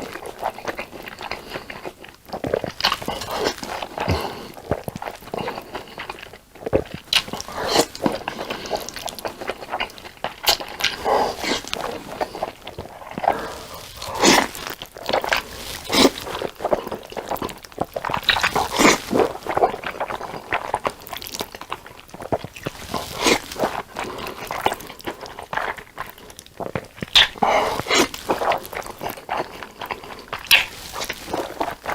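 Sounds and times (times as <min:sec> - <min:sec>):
person chewing noodles: 0:00.0 - 0:31.9.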